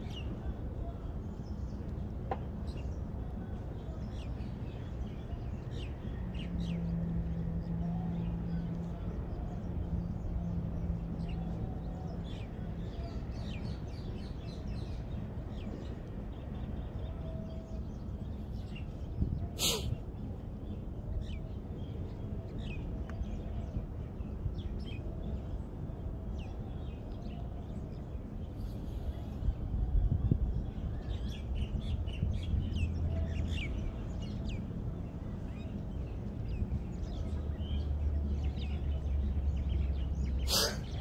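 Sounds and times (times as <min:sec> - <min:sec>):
steady low background noise: 0:00.0 - 0:41.0.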